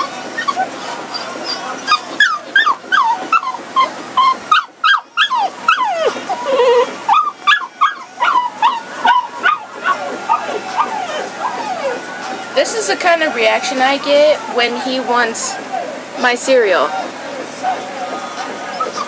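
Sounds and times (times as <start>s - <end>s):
dog whining: 0.0s - 14.9s, 18.6s - 19.0s.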